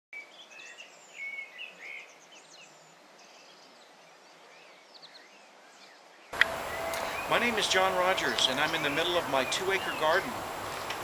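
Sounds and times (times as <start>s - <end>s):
faint background hiss: 0.2s - 11.0s
small songbirds chirping: 0.2s - 11.0s.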